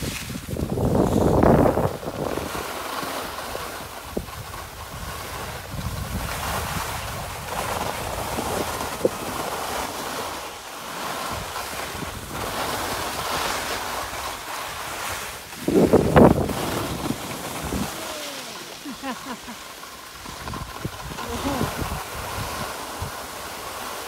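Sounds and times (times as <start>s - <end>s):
wind gusts on microphone: 0.0s - 19.6s, 20.2s - 23.8s
skis sliding over snow: 0.0s - 24.0s.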